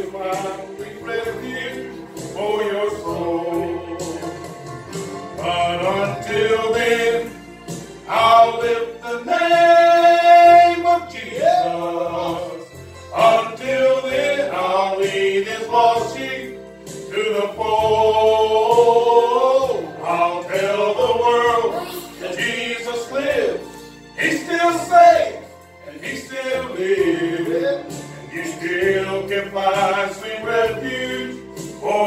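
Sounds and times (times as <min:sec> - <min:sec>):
instrumental accompaniment: 0:00.0 - 0:32.0
men singing gospel song: 0:00.0 - 0:32.0
steady bass line: 0:00.0 - 0:32.0.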